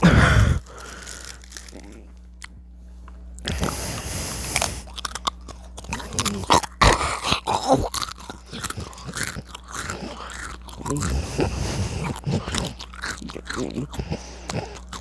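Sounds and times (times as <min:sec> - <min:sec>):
chips crunching being chewed: 0:00.0 - 0:15.0.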